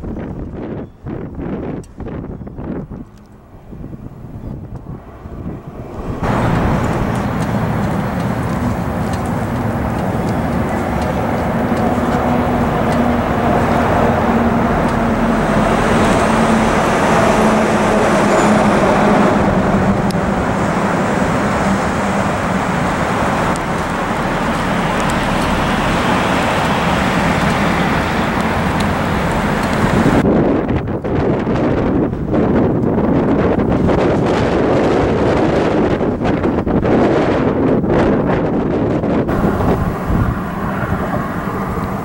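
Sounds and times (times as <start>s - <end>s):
road and traffic noise: 0.0s - 42.0s
truck passing close: 2.6s - 32.6s, 33.4s - 42.0s.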